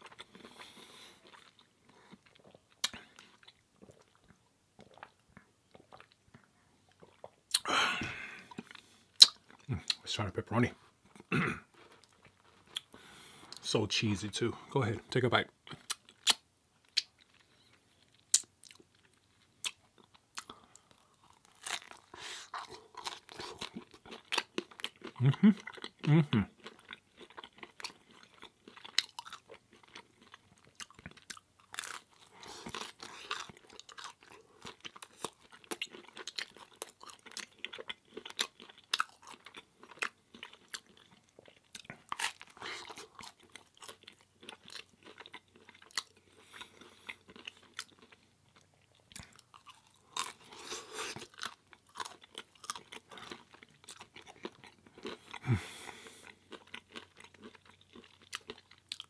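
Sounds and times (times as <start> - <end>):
person chewing crunchy food: 0.0 - 10.0, 11.1 - 13.6, 15.6 - 59.0.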